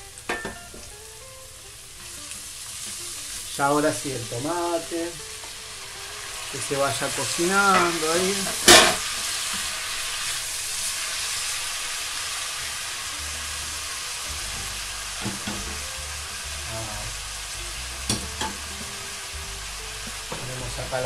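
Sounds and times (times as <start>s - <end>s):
vegetables sizzling in pot: 0.0s - 21.0s.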